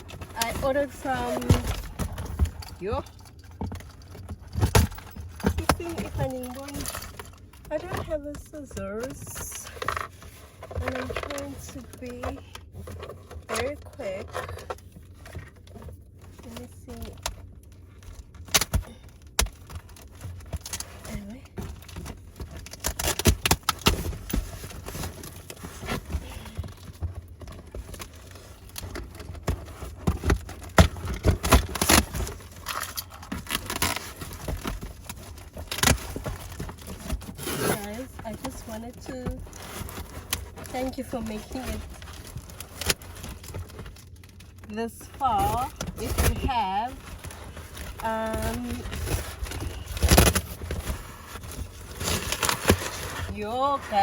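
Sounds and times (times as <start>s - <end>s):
packaging crinkling and tearing: 0.0s - 54.0s.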